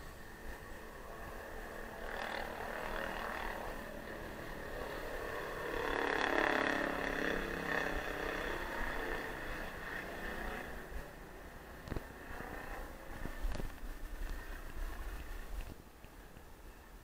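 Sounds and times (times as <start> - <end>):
wind and rolling noise: 0.0 - 17.0
vehicle engine passing: 0.2 - 15.5.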